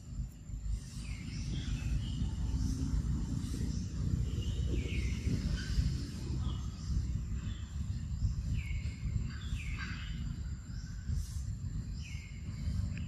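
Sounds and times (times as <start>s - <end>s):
birds calling with sliding notes: 0.0s - 13.0s
low rumble: 0.0s - 13.0s.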